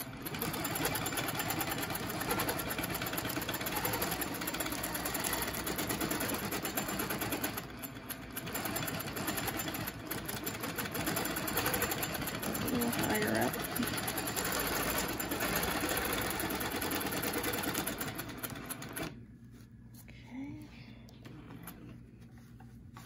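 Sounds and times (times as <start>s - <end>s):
quilting machine stitching: 0.0s - 19.2s.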